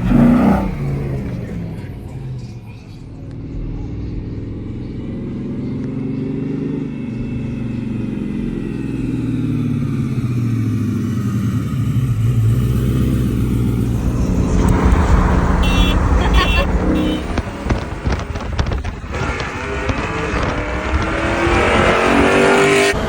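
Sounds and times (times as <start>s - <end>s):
car engine and exhaust: 0.0s - 23.0s.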